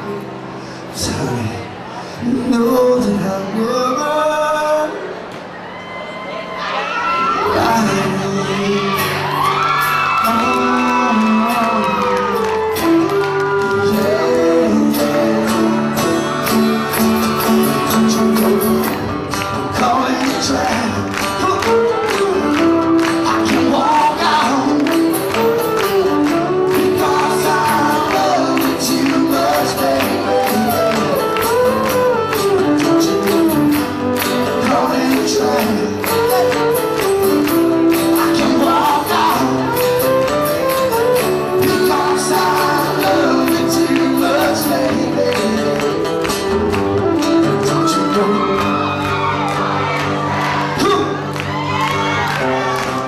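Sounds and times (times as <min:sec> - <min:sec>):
acoustic guitars strumming: 0:07.4 - 0:53.0.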